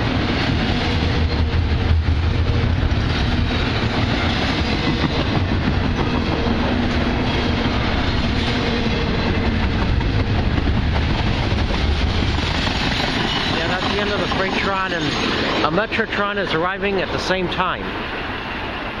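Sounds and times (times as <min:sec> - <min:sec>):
train wheel clatter: 0:00.0 - 0:17.6
freight train rumbling past: 0:00.0 - 0:19.0.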